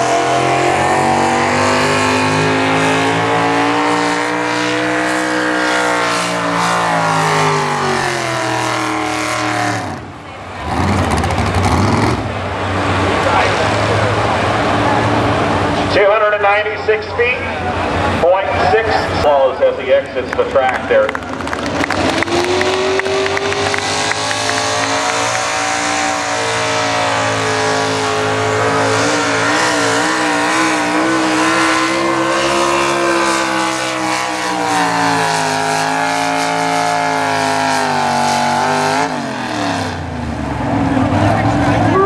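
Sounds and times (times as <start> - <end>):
truck engine at high revs: 0.0 - 42.0.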